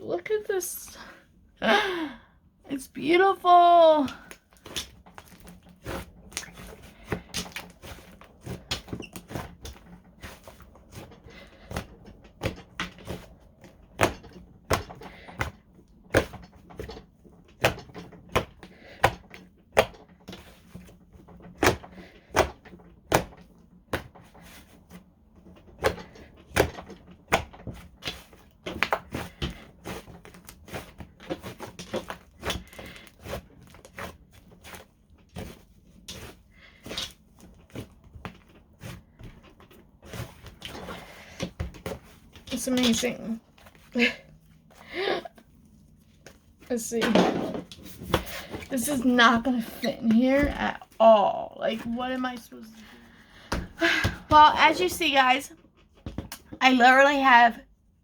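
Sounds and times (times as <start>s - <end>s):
slime being kneaded: 3.9s - 25.0s, 25.8s - 52.8s.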